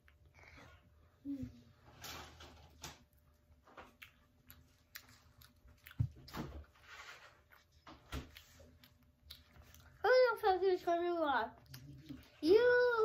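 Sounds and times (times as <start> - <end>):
child chewing: 0.0 - 13.0.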